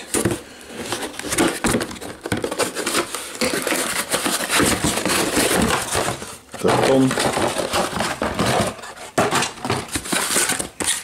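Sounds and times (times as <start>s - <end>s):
cardboard scraping on cardboard: 0.0s - 11.0s
small knocks and crinkles: 0.0s - 11.0s.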